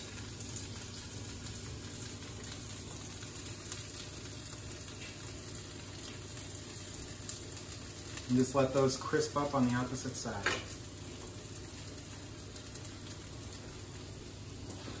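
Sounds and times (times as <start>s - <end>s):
faint crackles: 0.0s - 15.0s
potatoes sizzling in a pan: 0.0s - 15.0s.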